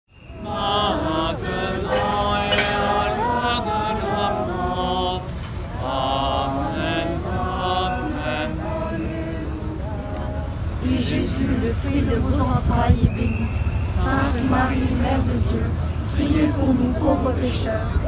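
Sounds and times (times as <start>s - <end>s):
crowd singing a hymn: 0.2s - 18.0s.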